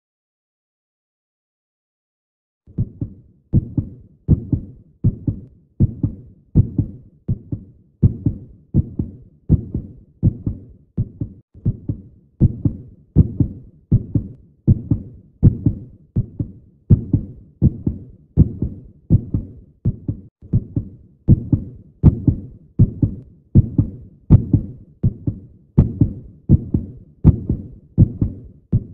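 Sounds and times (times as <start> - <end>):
heartbeat double thump: 2.7 - 28.9.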